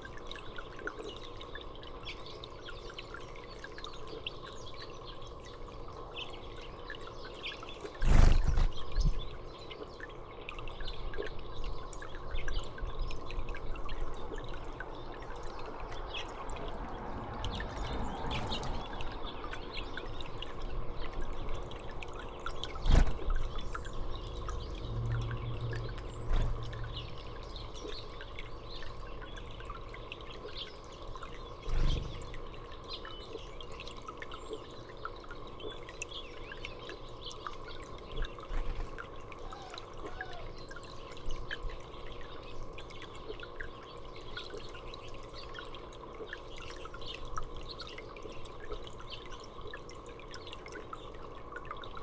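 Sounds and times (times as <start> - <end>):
steady low hum: 0.0 - 52.0
water dripping and trickling: 0.0 - 52.0
small birds chirping: 0.4 - 51.4.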